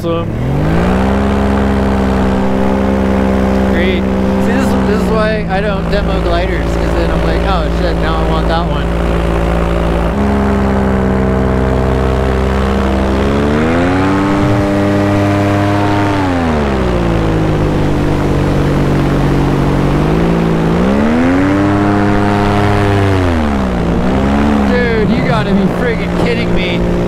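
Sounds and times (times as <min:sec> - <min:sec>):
paramotor engine and propeller: 0:00.0 - 0:27.0.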